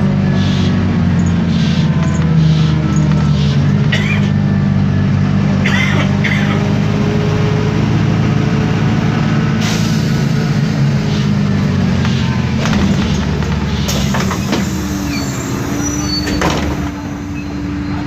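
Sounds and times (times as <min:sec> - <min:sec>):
bus engine droning: 0:00.0 - 0:18.0.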